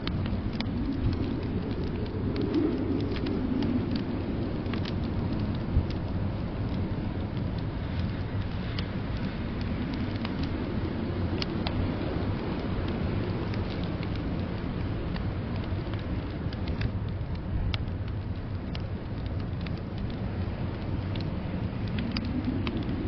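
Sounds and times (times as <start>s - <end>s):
fire pops and snaps: 0.0s - 23.0s
low rumble of storm: 0.0s - 23.0s
wood fire crackling: 0.0s - 23.0s.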